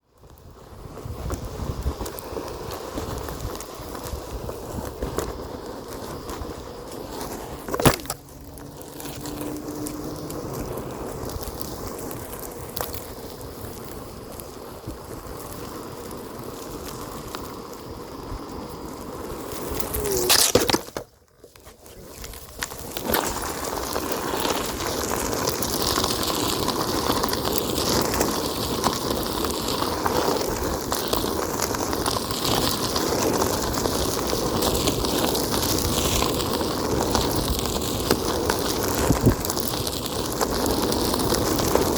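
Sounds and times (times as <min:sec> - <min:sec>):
board wheel rolling on trail: 0:00.0 - 0:41.9.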